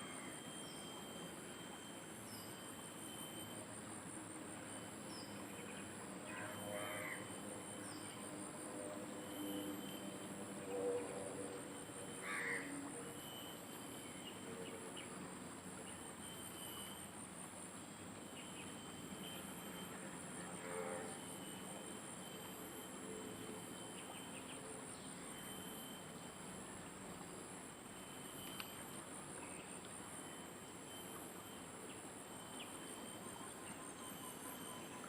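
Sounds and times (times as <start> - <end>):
pulsing insect chorus: 0.0 - 35.0.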